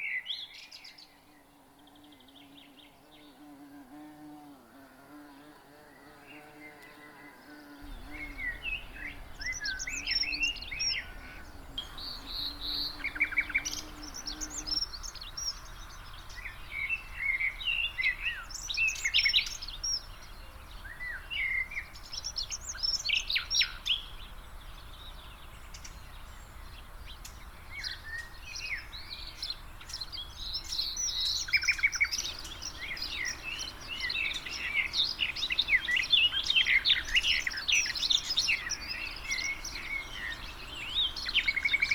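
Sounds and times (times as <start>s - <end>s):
songbirds chirping and singing: 5.3s - 41.9s.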